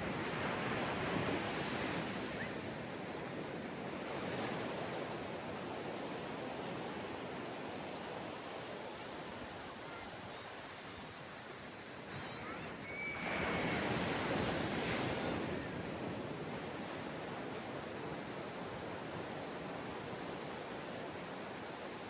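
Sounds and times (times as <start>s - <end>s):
surf washing onto sandy beach: 0.0s - 22.0s.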